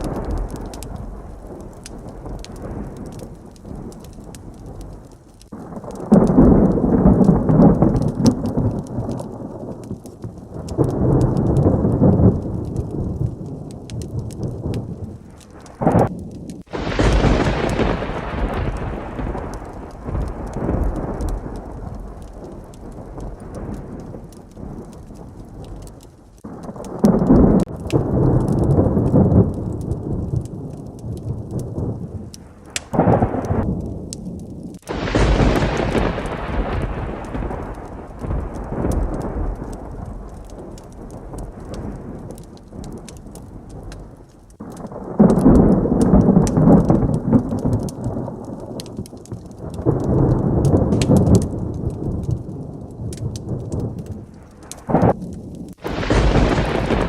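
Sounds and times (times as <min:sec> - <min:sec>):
heavy rain: 0:00.0 - 0:57.0
sharp close thunderclap: 0:00.0 - 0:57.0
thunder rolling: 0:00.0 - 0:57.0.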